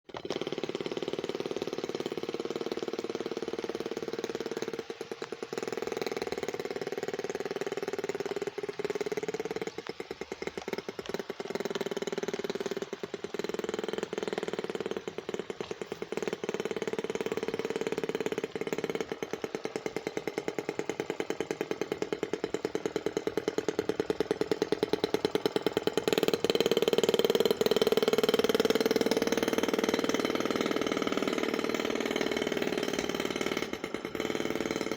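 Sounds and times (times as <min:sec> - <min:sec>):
model boat gas engine running: 0:00.0 - 0:34.9.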